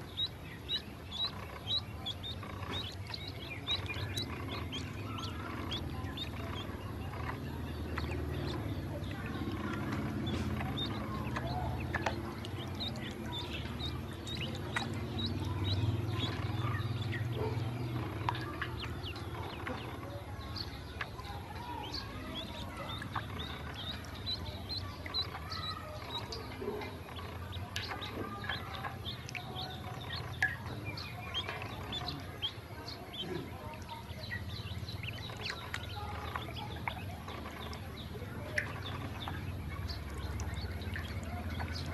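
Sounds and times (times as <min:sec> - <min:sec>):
ducklings peeping: 0:00.0 - 0:41.9
steady low rumble: 0:00.0 - 0:41.9.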